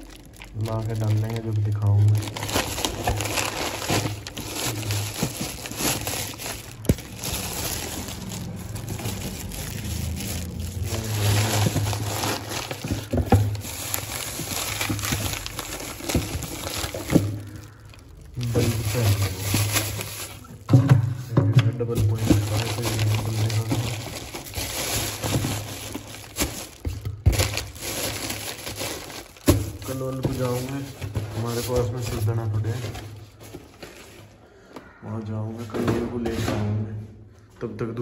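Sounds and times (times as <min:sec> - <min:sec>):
plastic bags rustling: 0:00.0 - 0:34.7
items knocking in a box: 0:02.2 - 0:17.8, 0:18.4 - 0:34.3.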